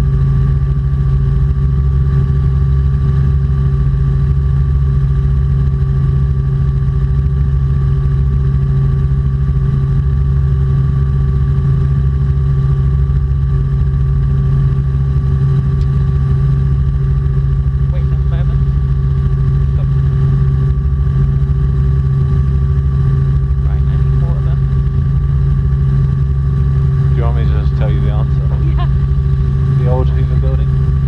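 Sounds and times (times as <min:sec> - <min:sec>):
helicopter engine and rotors drone: 0:00.0 - 0:31.0.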